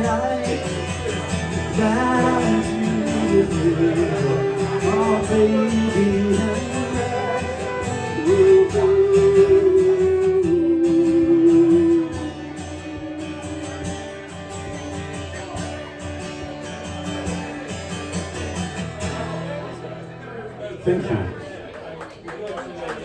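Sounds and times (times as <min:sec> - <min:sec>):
strummed guitar: 0:00.0 - 0:21.4.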